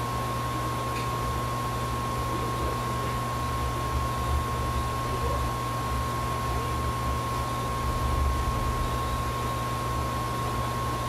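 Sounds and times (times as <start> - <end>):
equipment hum and hiss: 0.0 - 11.0.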